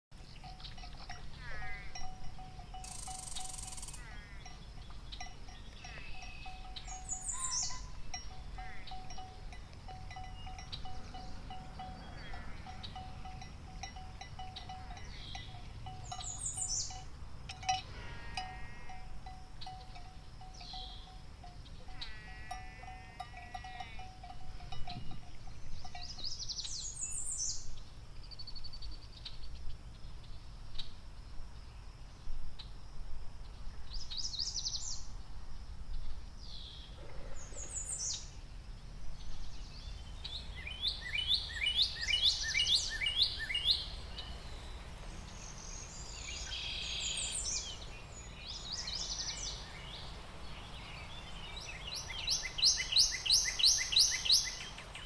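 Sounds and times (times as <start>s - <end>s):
birds chirping: 0.2s - 29.4s, 39.2s - 55.0s.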